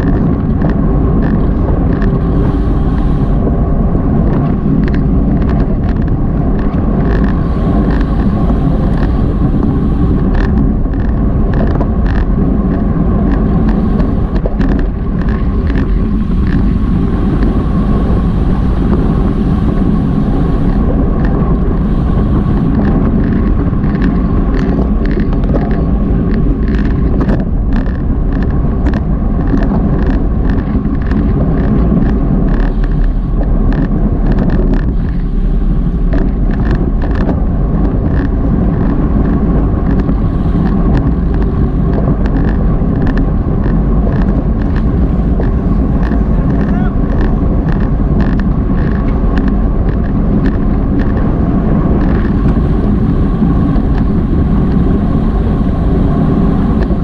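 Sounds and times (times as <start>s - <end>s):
small clicks and rattles: 0.0s - 57.0s
wind rush on microphone: 0.0s - 57.0s.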